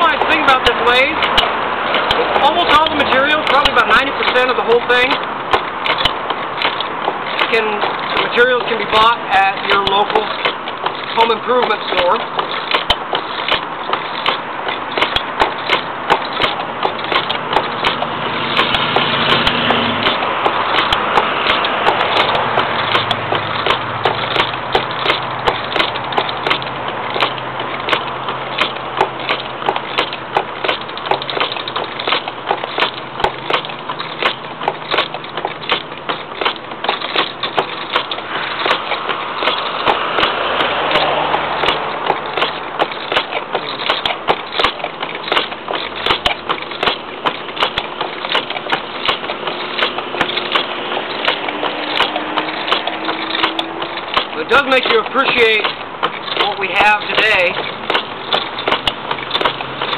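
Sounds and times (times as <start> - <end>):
gouge scraping spinning wood: 0.0 - 59.9
sharp knocks of treadle lathe: 0.0 - 59.9.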